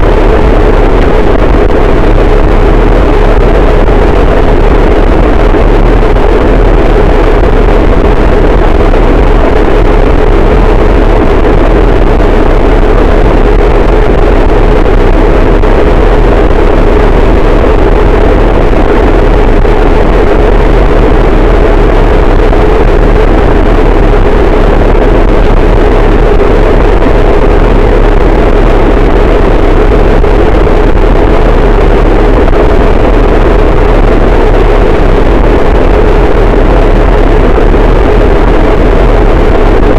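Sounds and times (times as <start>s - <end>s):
wall of distorted noise: 0.0s - 39.9s.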